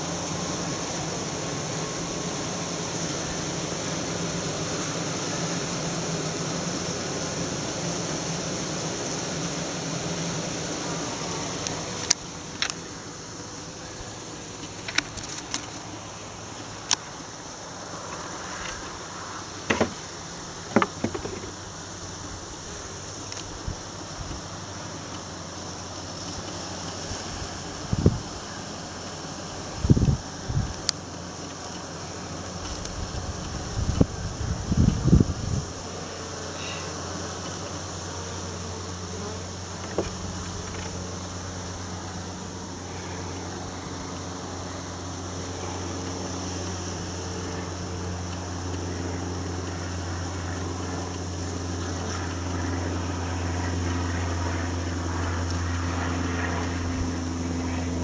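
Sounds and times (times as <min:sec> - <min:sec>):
bees buzzing: 0:00.0 - 0:30.5, 0:31.1 - 0:58.0.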